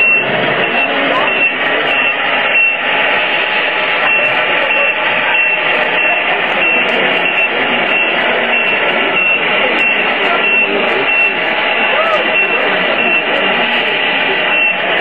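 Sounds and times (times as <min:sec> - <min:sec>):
crowd hubbub: 0:00.0 - 0:15.0
repeating electronic beep: 0:00.0 - 0:15.0.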